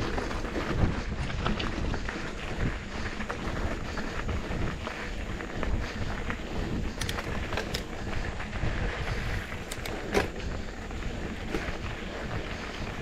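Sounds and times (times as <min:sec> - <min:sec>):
bike clicks and rattles: 0:00.0 - 0:13.0
bike tyres rumbling on trail: 0:00.0 - 0:13.0
wind on microphone: 0:00.0 - 0:13.0.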